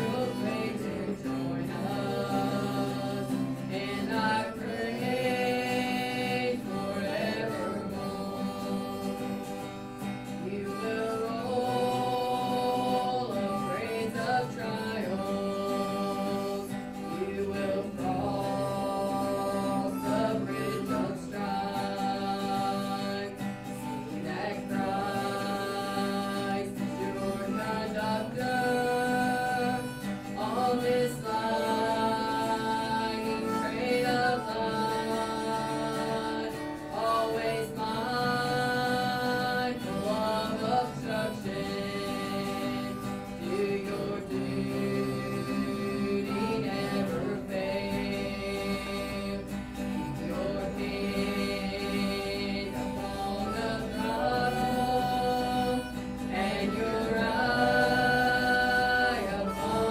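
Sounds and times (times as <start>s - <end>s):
woman singing gospel: 0.0s - 9.5s, 10.3s - 59.9s
guitar: 0.0s - 59.9s.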